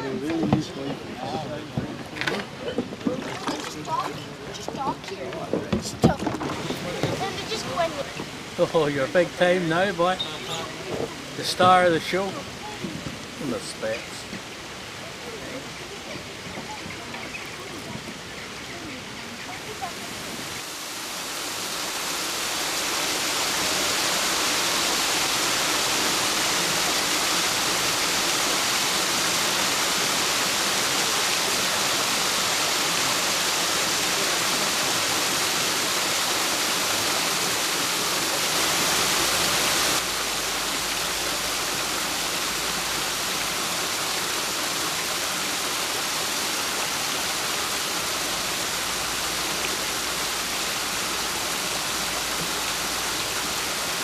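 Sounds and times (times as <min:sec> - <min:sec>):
water rushing through sluices: 0:00.0 - 0:54.0.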